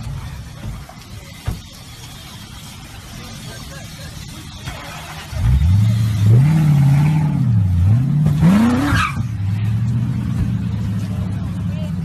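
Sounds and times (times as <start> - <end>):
car engine revving: 1.8 - 12.0.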